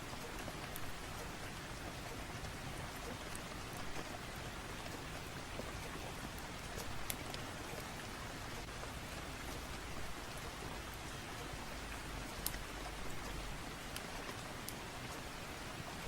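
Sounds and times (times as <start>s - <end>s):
sharp raindrop ticks: 0.0s - 16.0s
steady rain falling: 0.0s - 16.0s.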